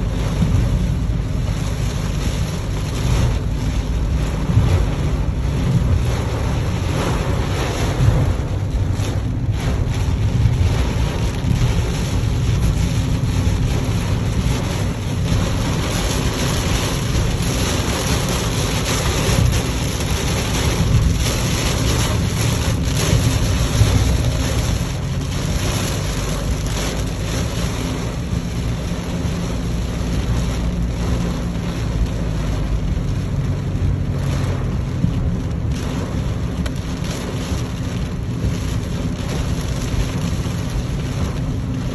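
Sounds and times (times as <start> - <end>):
heavy rain on car roof: 0.0 - 41.9
low road rumble: 0.0 - 41.9
tyres on wet road: 0.0 - 41.9.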